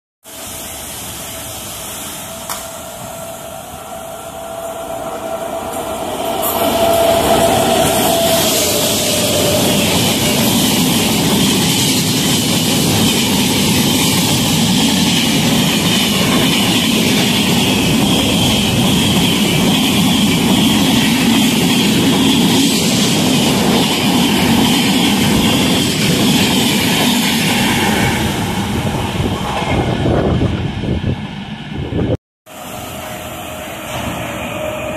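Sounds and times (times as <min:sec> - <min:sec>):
rush of wheels on rail: 0:00.2 - 0:34.9
train coaches passing at speed: 0:00.2 - 0:34.9.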